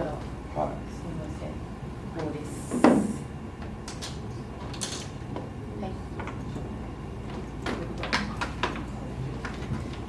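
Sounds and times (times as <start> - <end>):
low room murmur: 0.0 - 10.0.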